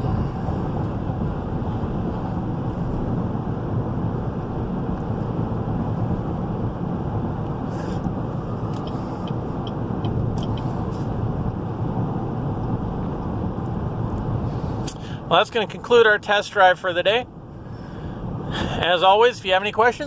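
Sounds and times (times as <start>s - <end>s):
road and tyre noise in car cabin: 0.0s - 20.0s.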